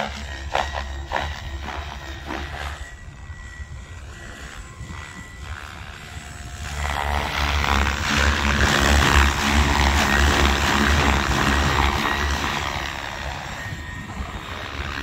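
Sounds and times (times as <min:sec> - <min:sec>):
rc helicopter rotor and motor whine: 0:00.0 - 0:15.0.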